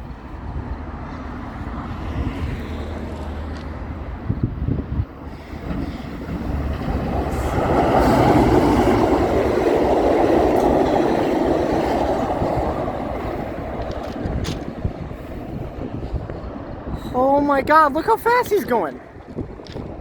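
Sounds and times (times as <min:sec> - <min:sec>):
train passing at speed: 0:00.0 - 0:20.0
wind buffeting microphone: 0:00.0 - 0:20.0.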